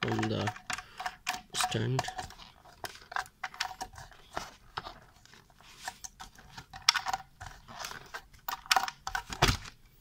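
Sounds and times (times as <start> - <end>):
plastic clicks scrapes and rattles: 0.0 - 9.4.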